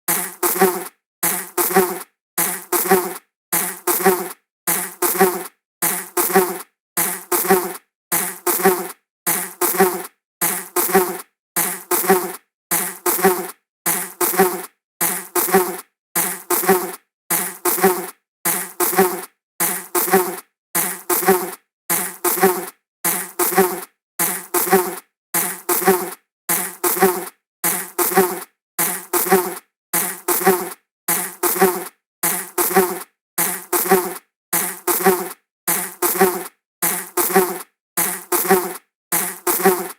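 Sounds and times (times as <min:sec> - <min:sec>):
flying insect buzzing: 0:00.1 - 0:39.9.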